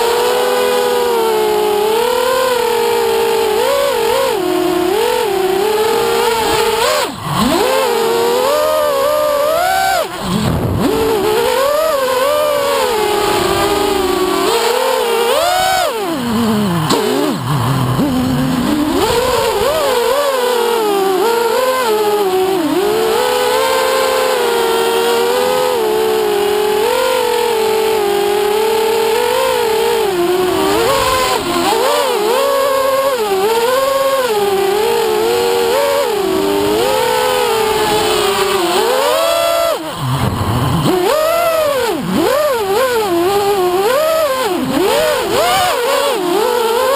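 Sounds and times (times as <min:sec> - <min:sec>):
drone motors buzzing whine: 0:00.0 - 0:46.9.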